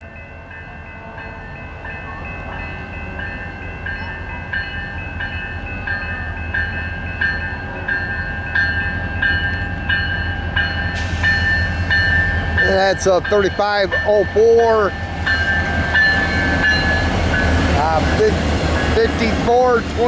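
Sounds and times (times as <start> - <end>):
diesel locomotives rumbling: 0.0 - 20.0
locomotive bell ringing: 0.0 - 20.0.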